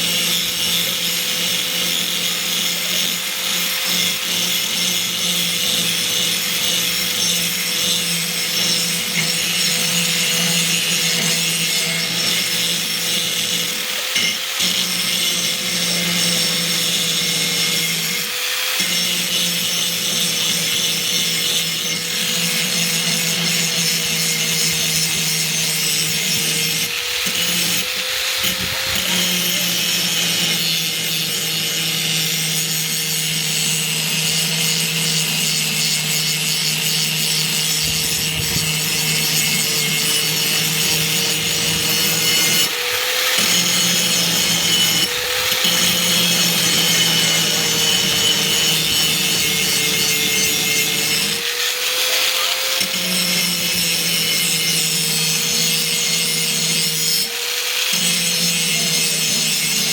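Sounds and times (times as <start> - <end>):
grinder sharpening axe blade: 0.0 - 59.9.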